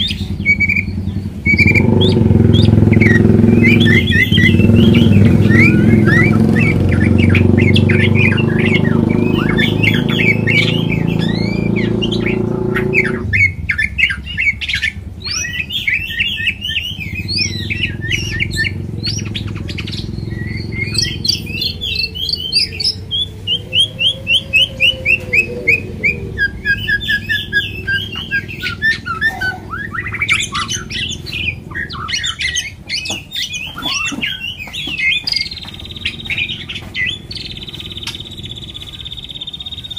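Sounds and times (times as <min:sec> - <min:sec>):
bird singing whistles: 0:00.0 - 0:39.9
low mechanical drone: 0:00.0 - 0:39.9.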